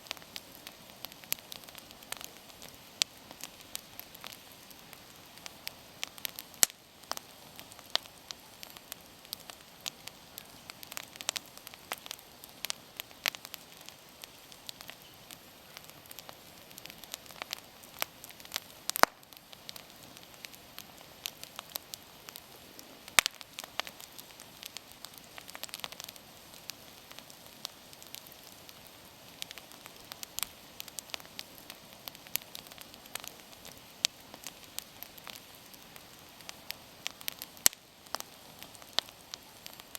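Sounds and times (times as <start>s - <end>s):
campfire crackling and popping: 0.0s - 39.9s
campfire snaps: 0.0s - 39.9s.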